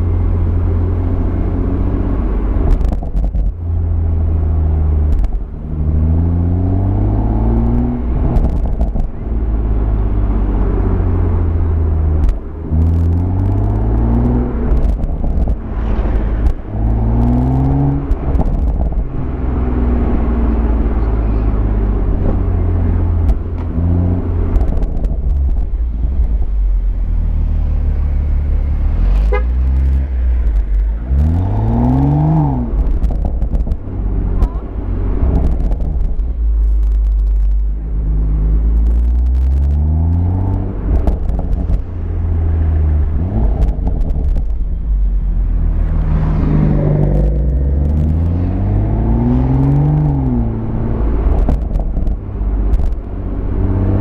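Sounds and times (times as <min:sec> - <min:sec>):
car exhaust revving: 0:00.0 - 0:54.0
deep exhaust rumble: 0:00.0 - 0:54.0.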